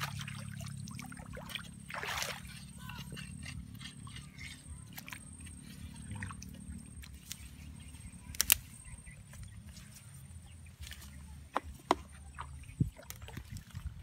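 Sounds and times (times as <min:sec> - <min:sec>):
footsteps squelching through mud: 0:00.0 - 0:14.0
steady low rumble: 0:00.0 - 0:14.0.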